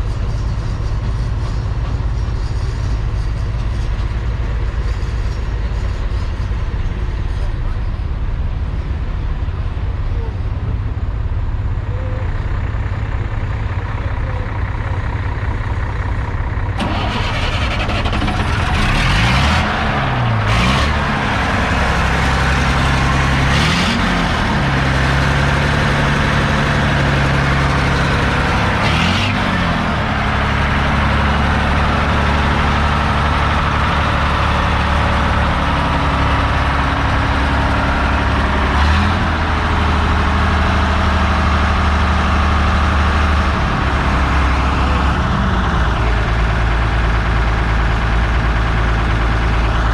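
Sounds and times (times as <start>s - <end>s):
diesel engine idling and revving: 0.0s - 49.9s.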